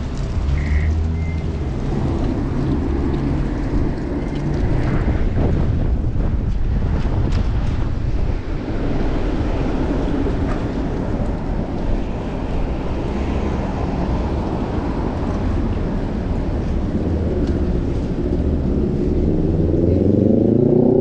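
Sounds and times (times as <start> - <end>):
road and traffic rumble: 0.0 - 21.0
wind rushing over microphone: 0.0 - 21.0.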